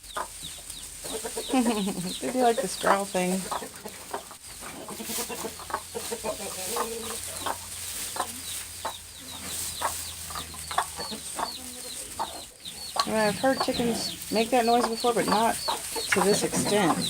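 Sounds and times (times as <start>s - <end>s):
chickens growling and clucking: 0.0s - 17.0s.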